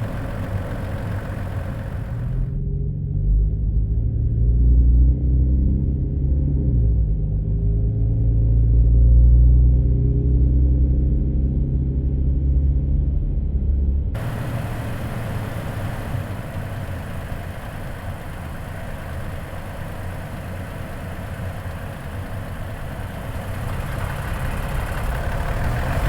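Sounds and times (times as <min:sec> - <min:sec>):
engine low rumble: 0:00.0 - 0:26.0.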